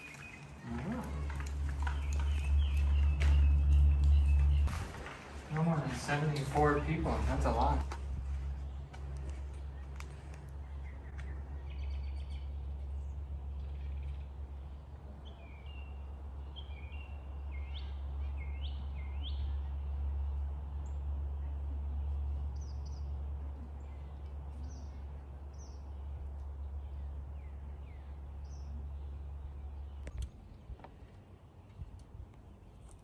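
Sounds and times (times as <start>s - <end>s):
low steady rumble: 0.0s - 33.0s
songbirds chirping and whistling: 0.0s - 33.0s.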